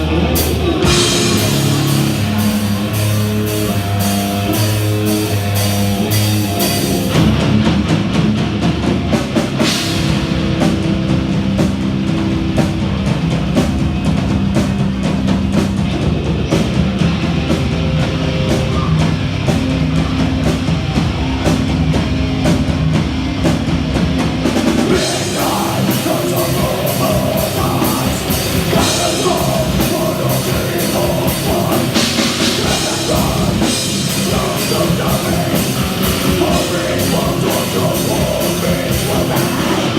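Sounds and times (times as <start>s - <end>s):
bass guitar: 0.0s - 39.9s
distorted electric guitars: 0.0s - 39.9s
fast dense drumming: 0.0s - 39.9s.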